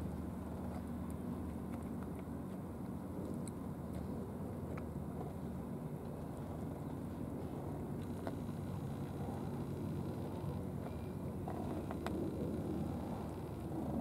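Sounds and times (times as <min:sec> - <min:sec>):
cats chewing and biting: 0:00.0 - 0:14.0
steady low rumble: 0:00.0 - 0:14.0.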